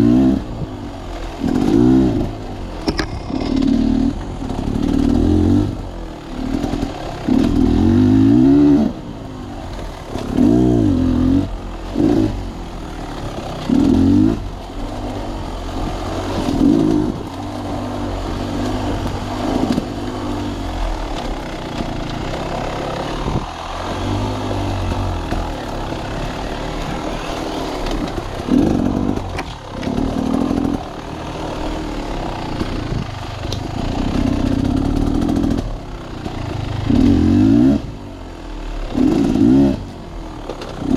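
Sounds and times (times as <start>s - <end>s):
engine revving: 0.0s - 40.9s.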